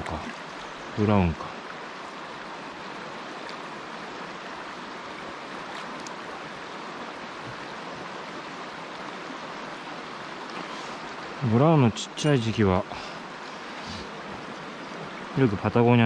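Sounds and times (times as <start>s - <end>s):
stream flowing over stones: 0.0s - 16.0s.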